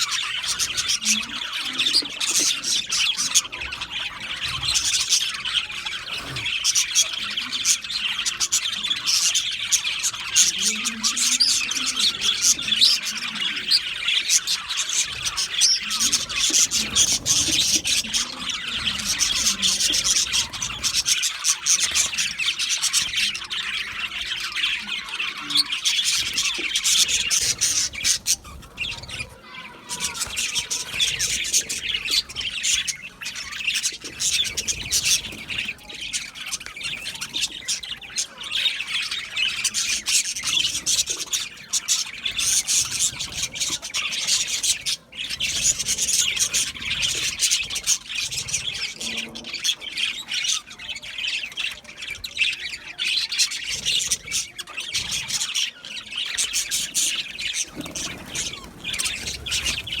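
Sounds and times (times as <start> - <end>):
budgerigars chirping and chattering: 0.0 - 60.0.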